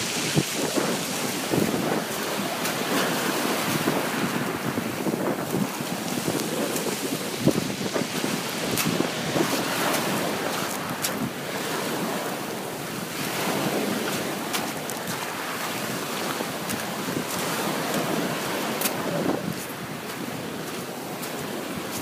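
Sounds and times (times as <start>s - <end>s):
small waves washing on beach: 0.0s - 22.0s
wind buffeting microphone: 0.0s - 22.0s.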